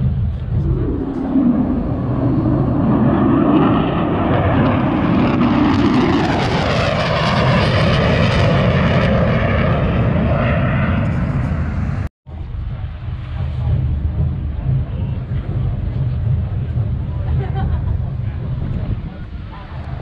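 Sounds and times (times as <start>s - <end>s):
fighter jet flying past: 0.0s - 20.0s.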